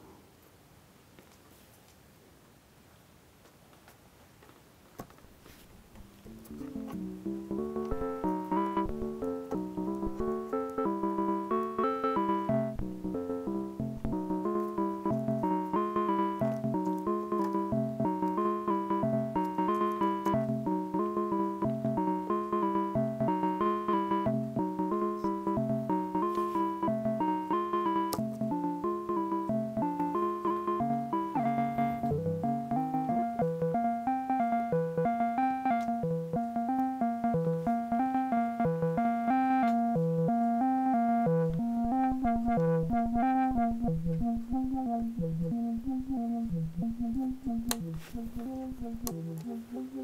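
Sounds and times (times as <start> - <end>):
synthesizer step-sequenced pattern: 6.3 - 50.0.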